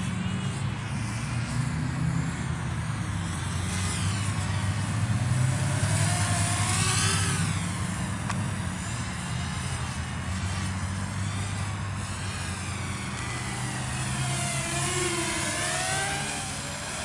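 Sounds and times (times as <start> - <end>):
quadcopter propellers whining: 0.0 - 17.0.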